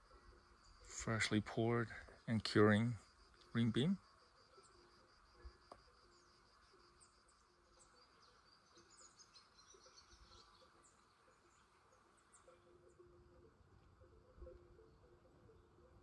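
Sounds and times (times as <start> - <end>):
distant bird chirps: 0.0 - 16.0
faint high insect buzz: 0.0 - 16.0.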